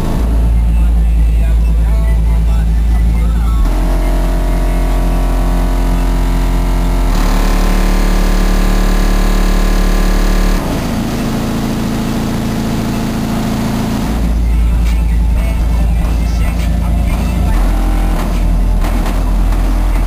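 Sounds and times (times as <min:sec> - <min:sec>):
loud held subwoofer bass notes: 0:00.0 - 0:20.0.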